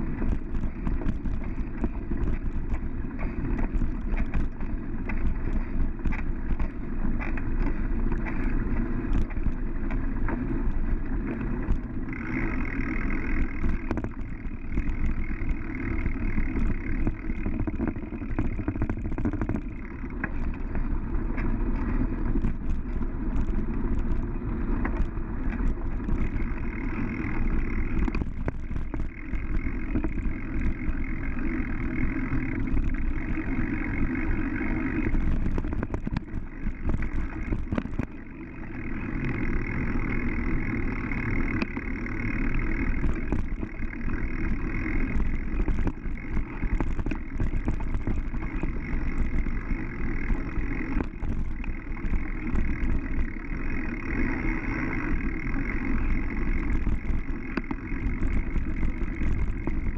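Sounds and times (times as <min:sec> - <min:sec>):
bicycle knocks and rattles: 0:00.0 - 0:59.9
bicycle tyre noise on dirt: 0:00.0 - 0:59.9.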